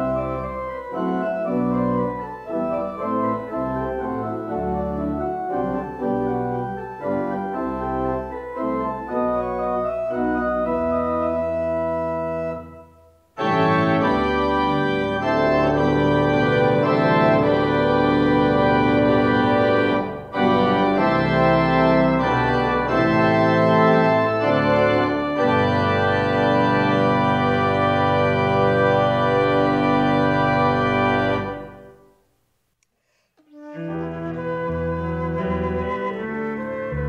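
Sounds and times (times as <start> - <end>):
church organ chords: 0.0 - 32.1.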